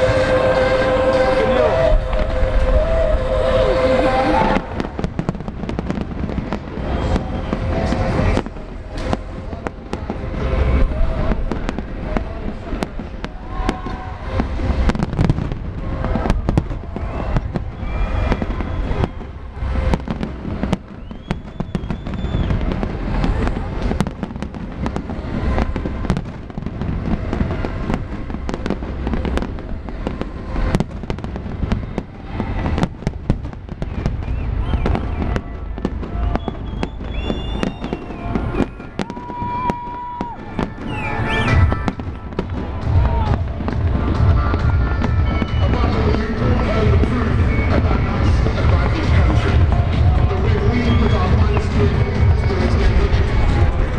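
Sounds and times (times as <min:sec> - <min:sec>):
deep fireworks booms: 0:00.0 - 0:53.9
fireworks bangs and crackles: 0:00.0 - 0:53.9.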